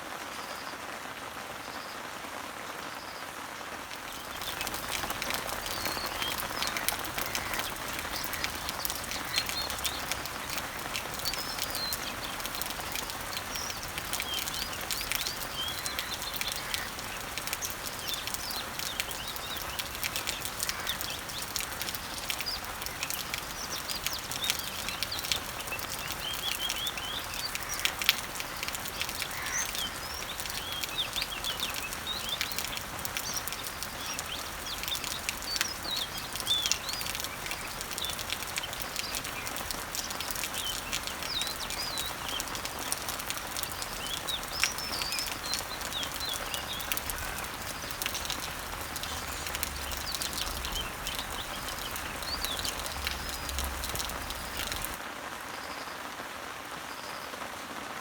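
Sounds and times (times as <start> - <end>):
rain pattering on leaves: 0.0 - 58.0
small birds chirping: 2.6 - 56.1
drops ticking: 4.1 - 55.0.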